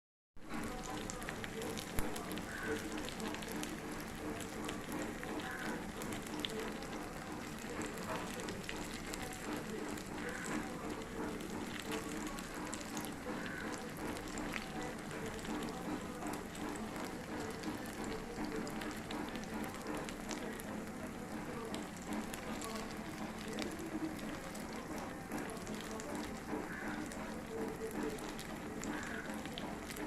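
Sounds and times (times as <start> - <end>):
fritters deep-frying in oil: 0.4 - 30.0.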